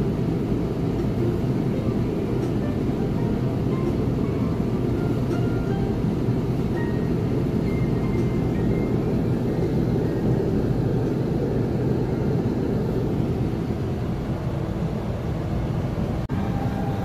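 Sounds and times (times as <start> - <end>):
gondola rumble and hiss: 0.0 - 17.0.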